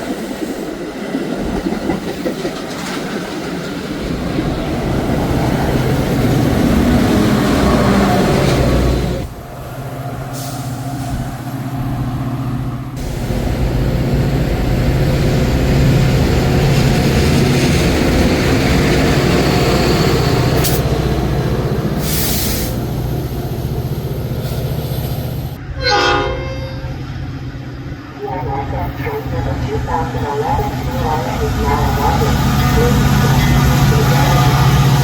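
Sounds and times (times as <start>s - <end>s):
diesel locomotive engine drone: 0.0s - 35.0s
train rumble: 0.0s - 35.0s.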